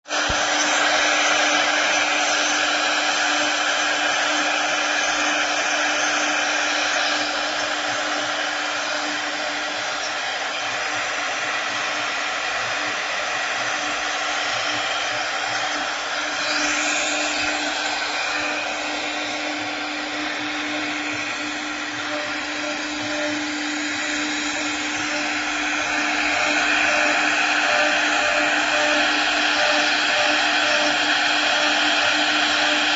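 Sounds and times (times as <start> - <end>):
wood lathe humming and whirring: 0.0 - 32.9.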